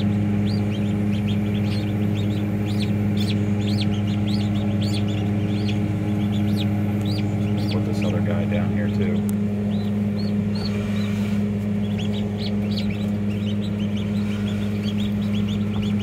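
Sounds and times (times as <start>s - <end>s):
ducklings peeping: 0.0s - 16.0s
low electrical hum: 0.0s - 16.0s.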